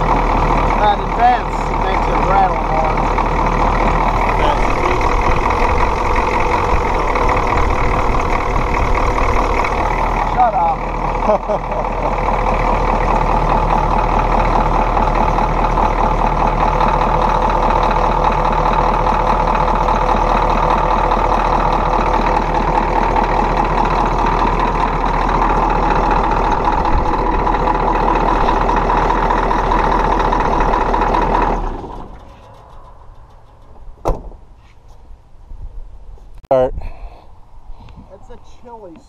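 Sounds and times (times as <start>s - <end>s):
diesel engine idling: 0.0s - 35.5s.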